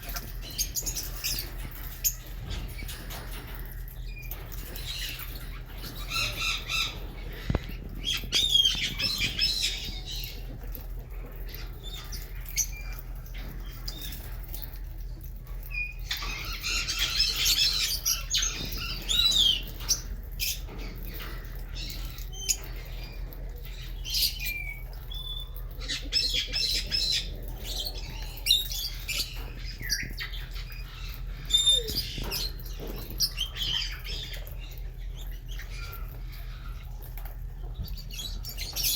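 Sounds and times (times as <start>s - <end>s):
lovebirds chattering and squawking: 0.0s - 38.9s.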